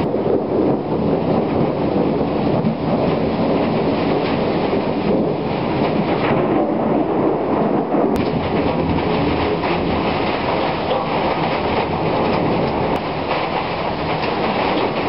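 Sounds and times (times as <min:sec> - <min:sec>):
rolling thunder rumble: 0:00.0 - 0:15.0.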